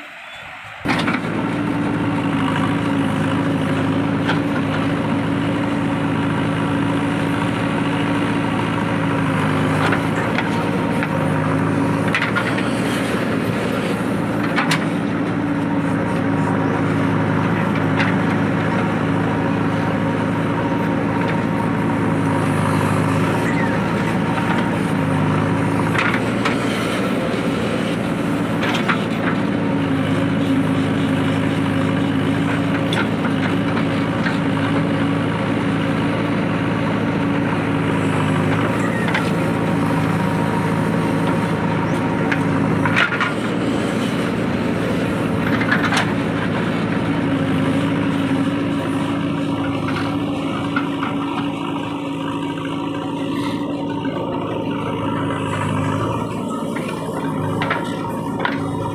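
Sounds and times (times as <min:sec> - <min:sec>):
diesel engine under hydraulic load: 0:00.0 - 0:58.9.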